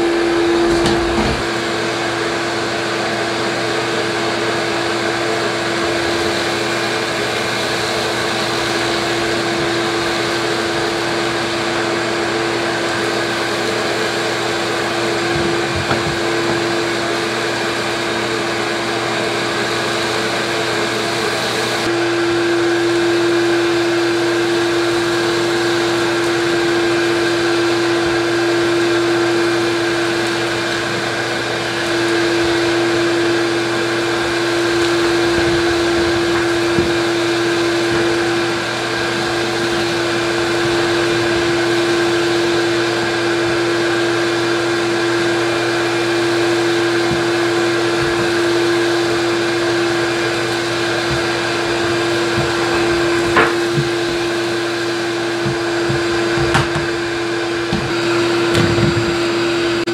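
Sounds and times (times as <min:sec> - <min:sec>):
shop vacuum running: 0:00.0 - 0:59.9.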